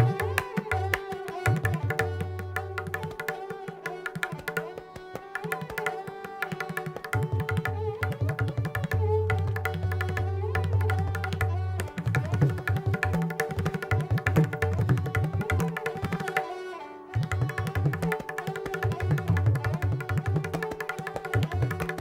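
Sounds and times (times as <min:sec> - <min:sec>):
fast tabla strokes: 0:00.0 - 0:16.5, 0:17.2 - 0:22.0
sarangi melody: 0:00.0 - 0:22.0.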